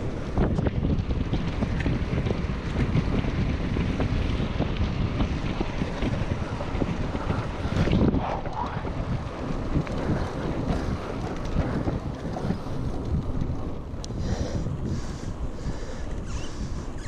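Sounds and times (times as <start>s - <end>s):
bike tyres rumbling on asphalt: 0.0s - 17.0s
wind buffeting microphone: 0.0s - 17.0s.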